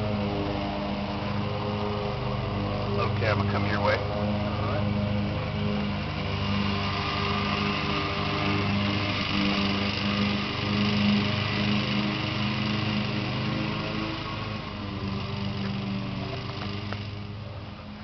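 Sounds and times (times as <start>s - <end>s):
engine humming steadily: 0.0s - 18.0s.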